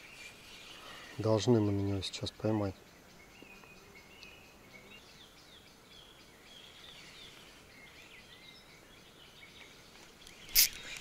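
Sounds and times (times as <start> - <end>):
background hiss: 0.0 - 11.0
small birds chirping: 0.0 - 11.0.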